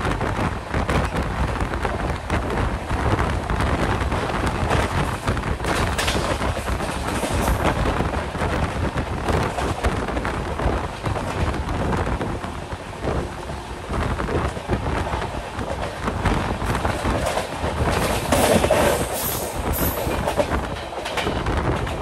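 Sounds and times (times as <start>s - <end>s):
train wheels rumbling on rails: 0.0s - 22.0s
wind on microphone: 0.0s - 22.0s.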